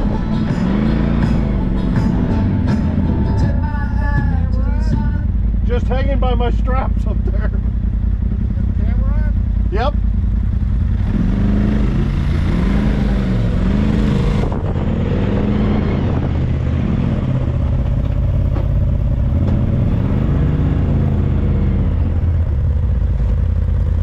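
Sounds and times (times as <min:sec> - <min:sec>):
utility vehicle engine running: 0:00.0 - 0:24.0.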